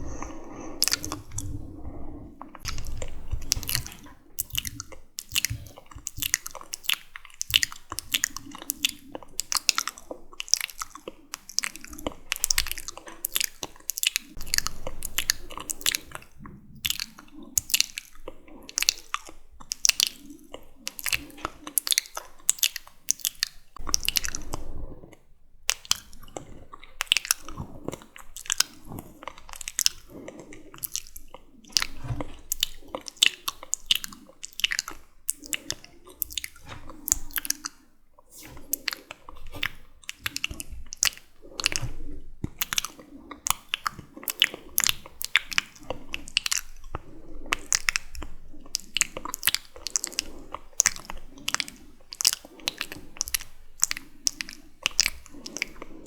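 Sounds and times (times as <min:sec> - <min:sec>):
wet lip and tongue smacks: 0:00.0 - 0:56.0.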